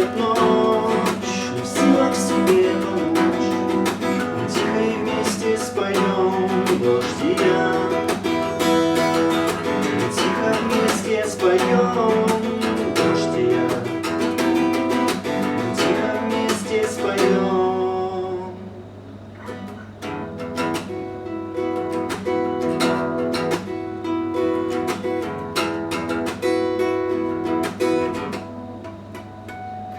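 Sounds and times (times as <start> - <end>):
acoustic guitar chords: 0.0 - 29.9
steady low hum: 0.0 - 29.9.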